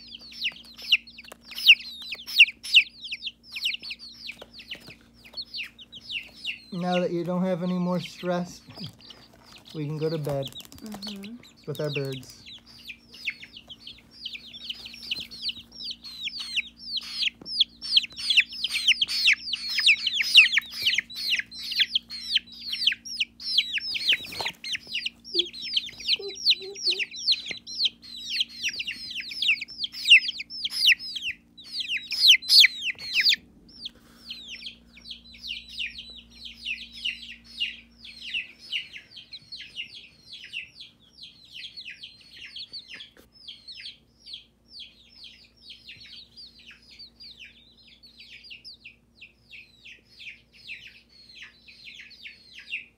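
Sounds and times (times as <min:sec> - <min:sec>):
baby chicks peeping: 0:00.0 - 0:52.9
steady low hum: 0:00.0 - 0:52.9.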